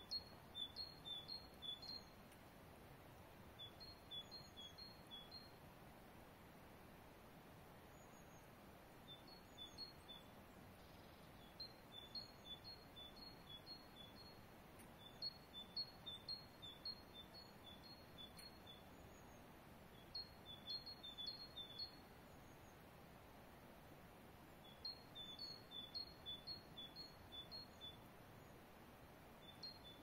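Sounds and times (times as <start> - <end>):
faint steady hiss: 0.0 - 30.0
songbird chirping: 0.0 - 30.0.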